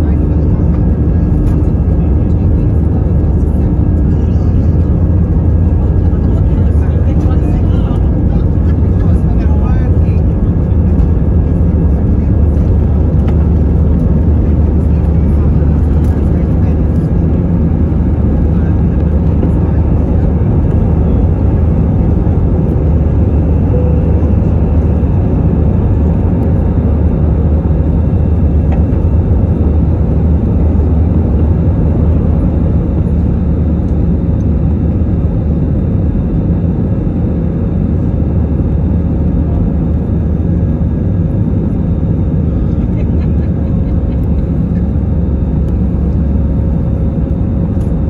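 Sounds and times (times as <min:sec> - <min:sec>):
airplane cabin engine drone: 0:00.0 - 0:48.0.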